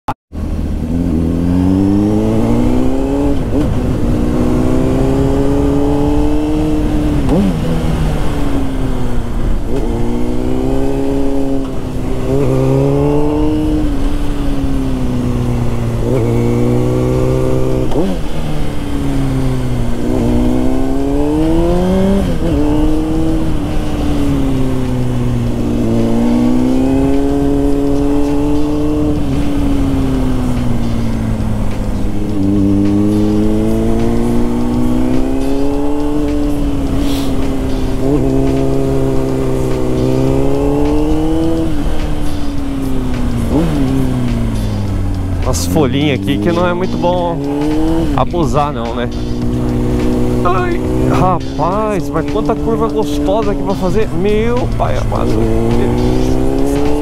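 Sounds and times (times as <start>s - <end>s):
motorcycle engine accelerating: 0.3s - 57.0s.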